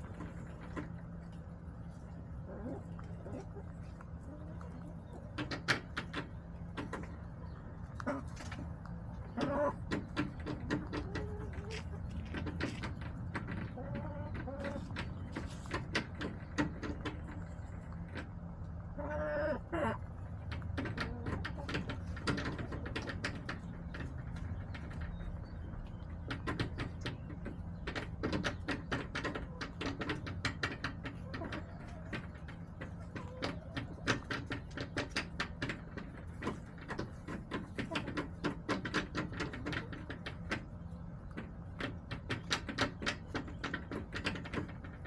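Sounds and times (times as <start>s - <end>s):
hens clucking: 0.0s - 45.0s
steady low hum: 0.0s - 45.0s.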